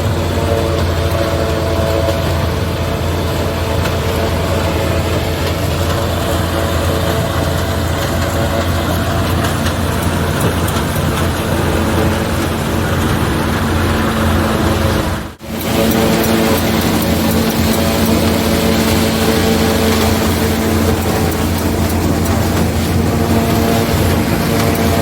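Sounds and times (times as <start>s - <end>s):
tractor and forage chopper running: 0.0s - 25.0s.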